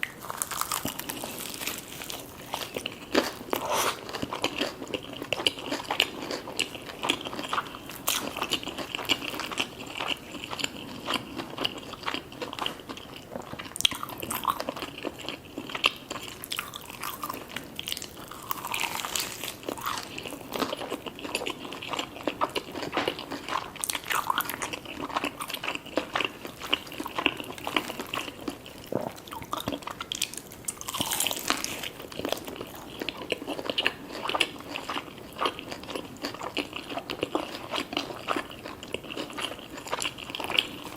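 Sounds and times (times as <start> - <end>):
chewing crispy fried food: 0.0 - 40.9.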